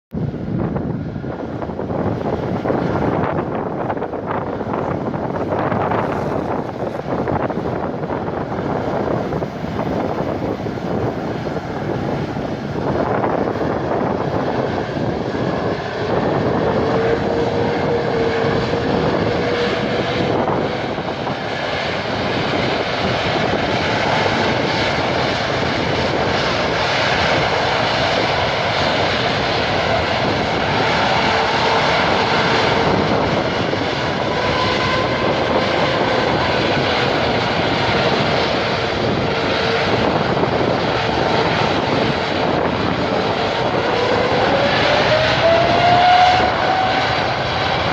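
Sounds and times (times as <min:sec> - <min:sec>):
jet engine roar: 0:00.1 - 0:47.9
wavering engine whine: 0:00.2 - 0:47.9.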